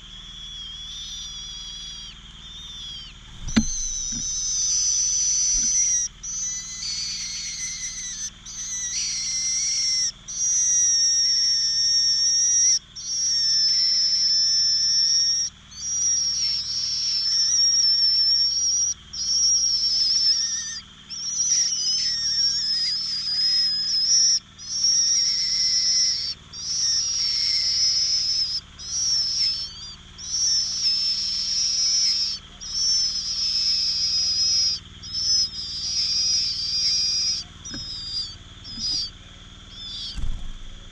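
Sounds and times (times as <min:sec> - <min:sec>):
bird chick hissing whistle: 0:00.0 - 0:39.1, 0:39.7 - 0:40.5.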